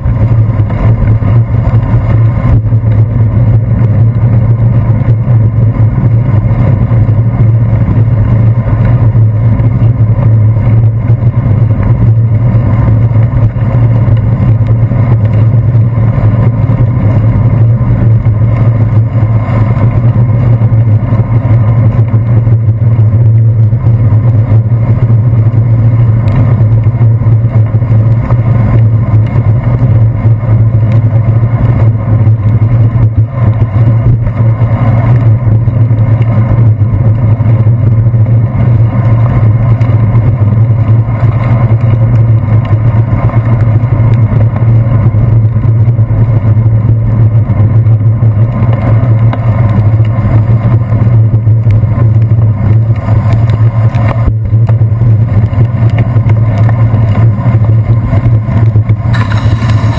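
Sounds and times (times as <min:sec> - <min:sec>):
bicycle rolling on wet pavement: 0:00.0 - 0:59.9
road traffic: 0:00.0 - 0:59.9.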